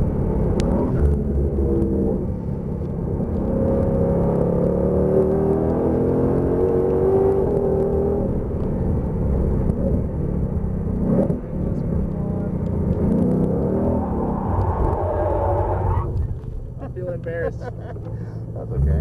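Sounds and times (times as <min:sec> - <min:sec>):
car engine at full throttle: 0:00.0 - 0:19.0.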